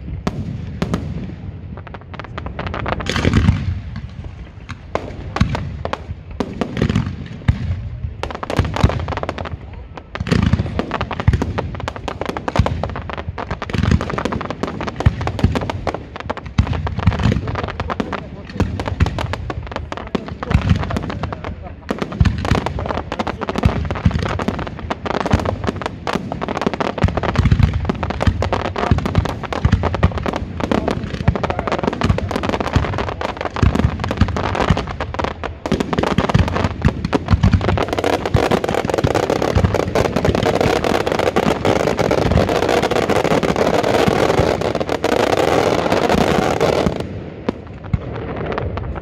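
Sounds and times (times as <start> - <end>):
fireworks bursts and bangs: 0.0 - 49.0.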